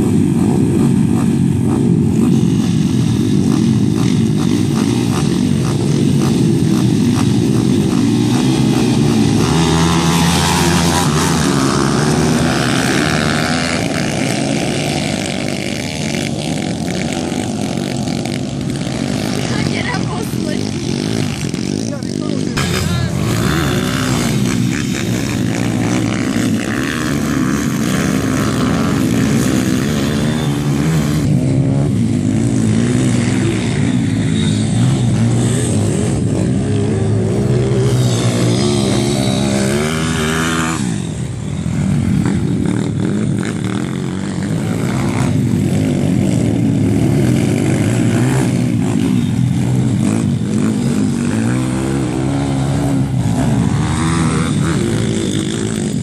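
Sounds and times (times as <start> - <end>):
motorbike engines revving: 0.0 - 56.0.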